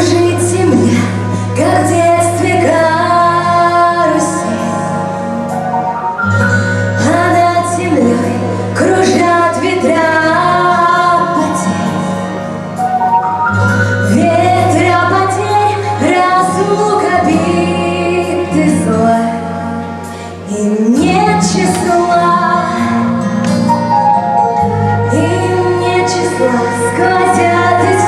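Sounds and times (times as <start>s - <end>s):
woman singing: 0.0s - 5.5s, 6.9s - 12.5s, 14.0s - 28.0s
sustained instrumental backing: 0.0s - 28.0s.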